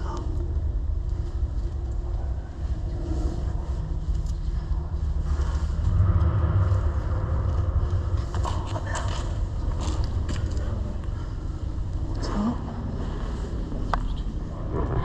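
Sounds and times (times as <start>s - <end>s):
low rumble in concrete tunnel: 0.0s - 15.0s.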